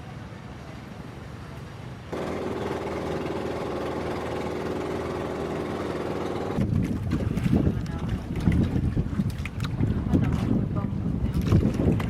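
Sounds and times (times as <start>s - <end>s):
boat engine running: 2.1s - 12.0s.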